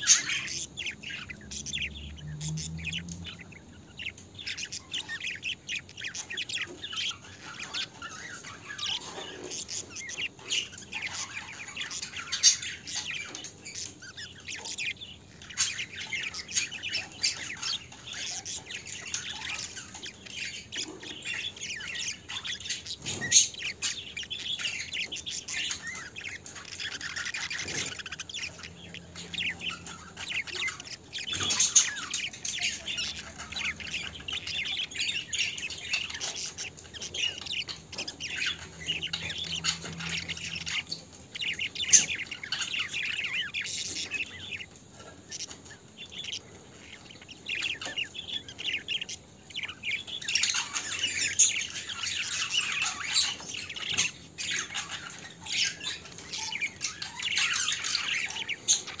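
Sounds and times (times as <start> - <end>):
bird squawks: 0.0 - 59.0
budgerigars chattering: 0.0 - 59.0.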